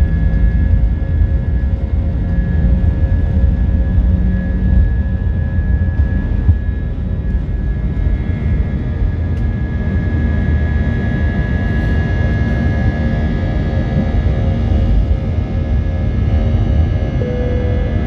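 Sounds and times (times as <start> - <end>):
constant high whine: 0.0 - 18.0
jet engine cabin rumble: 0.0 - 18.0.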